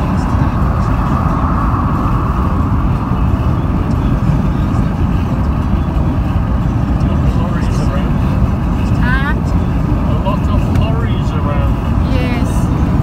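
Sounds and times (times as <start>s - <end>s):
road and wind noise in car: 0.0s - 13.0s.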